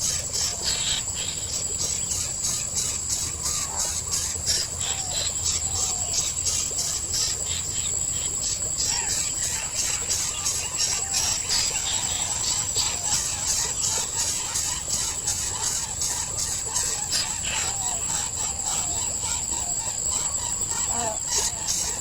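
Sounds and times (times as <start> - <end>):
high-pitched insect chorus pulsing: 0.0 - 22.0.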